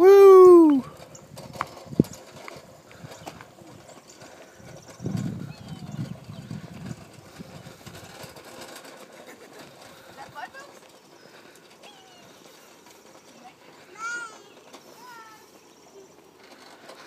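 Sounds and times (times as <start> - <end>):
toy wagon wheels rumbling: 0.0 - 17.0.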